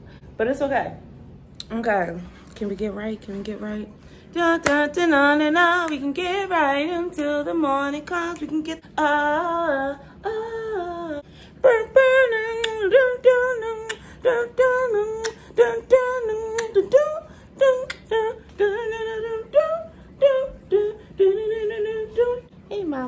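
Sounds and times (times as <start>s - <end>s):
woman singing wordlessly: 2.6s - 23.0s.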